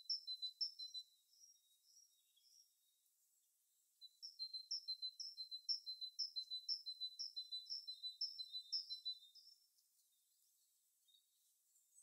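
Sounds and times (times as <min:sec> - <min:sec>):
small songbird singing: 0:00.0 - 0:12.0.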